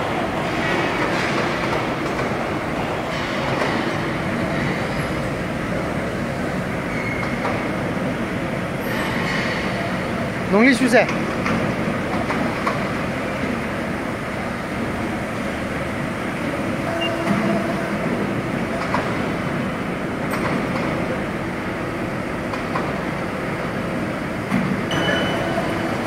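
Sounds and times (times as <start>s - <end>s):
factory machinery hum: 0.0s - 26.0s.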